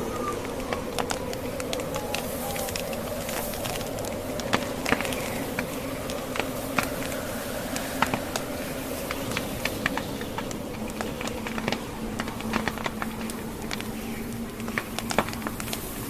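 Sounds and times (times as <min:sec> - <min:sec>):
logs crackling in a fireplace: 0:00.0 - 0:16.0.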